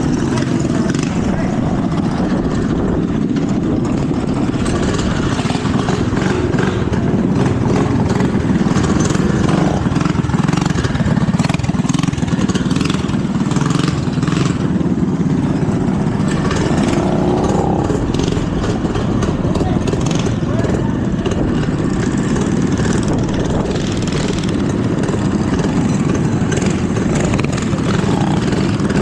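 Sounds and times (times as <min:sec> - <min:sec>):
small minibike engines running: 0:00.0 - 0:29.0.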